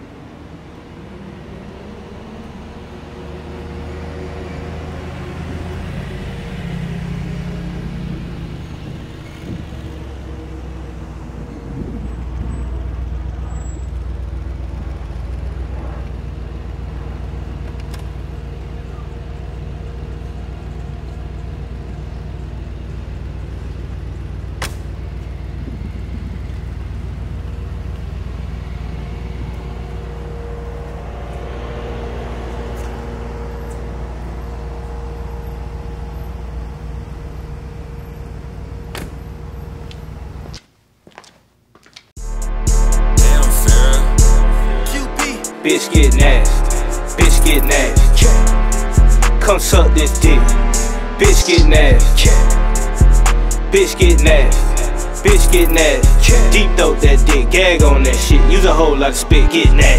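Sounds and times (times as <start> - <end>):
car engine idling: 7.8 - 40.5, 42.2 - 59.9.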